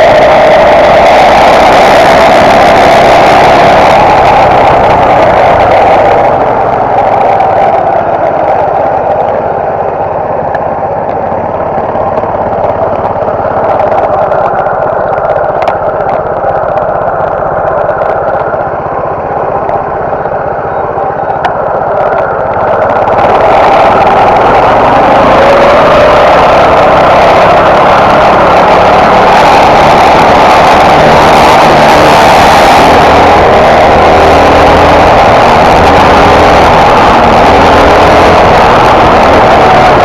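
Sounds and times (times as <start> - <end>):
mini bike engine revving: 0.0 - 40.0.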